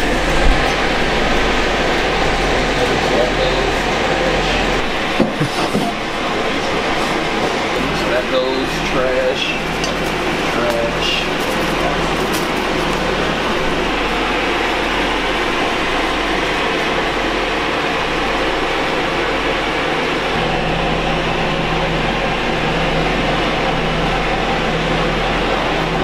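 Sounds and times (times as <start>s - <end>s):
air filtration fan running: 0.0s - 26.0s
low hum: 0.0s - 26.0s.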